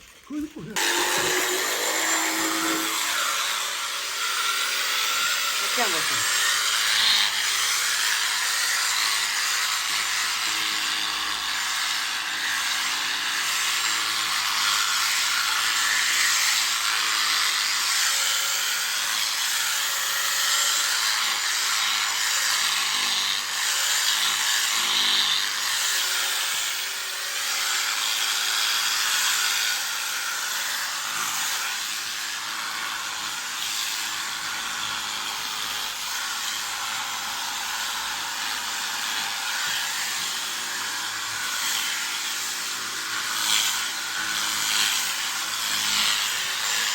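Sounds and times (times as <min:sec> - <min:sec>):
electric sheep shears running: 0:00.6 - 0:46.9.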